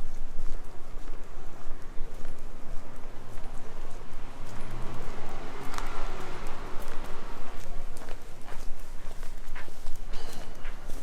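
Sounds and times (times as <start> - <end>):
footsteps on hard street: 0.0 - 11.0
street noise: 0.0 - 11.0.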